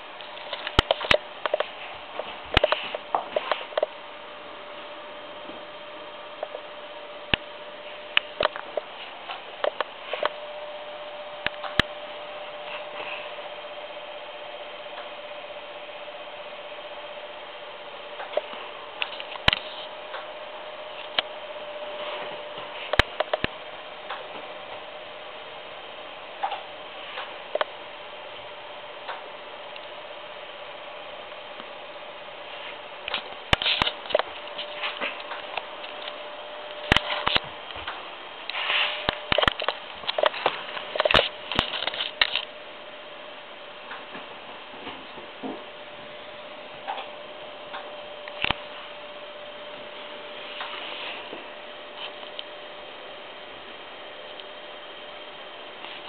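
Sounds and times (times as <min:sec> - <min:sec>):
faint steady hum: 0:00.0 - 0:56.0
steady hiss: 0:00.0 - 0:56.0.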